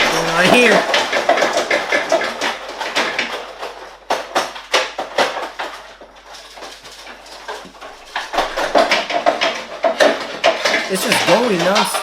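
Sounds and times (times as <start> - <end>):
cupboards and dishes clattering: 0.0 - 12.0.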